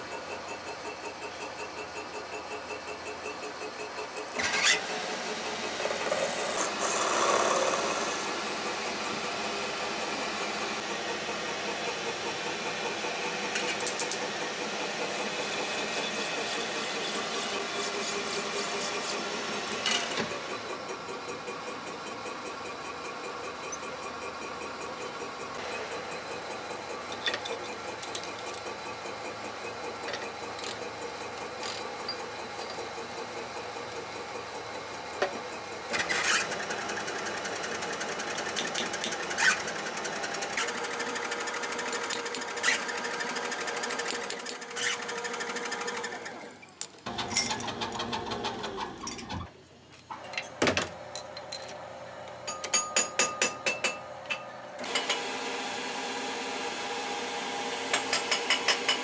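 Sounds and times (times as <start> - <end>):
machinery whirring and clattering: 0.2 - 55.4.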